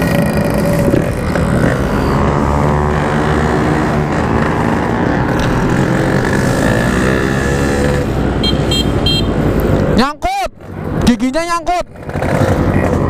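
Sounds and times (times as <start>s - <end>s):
two-stroke motorcycle engine revving: 0.0s - 9.5s, 11.9s - 13.0s.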